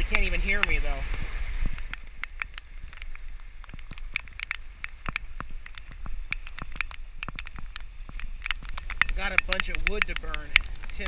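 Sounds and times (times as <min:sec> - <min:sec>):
raindrops tapping on housing: 0:00.0 - 0:11.0.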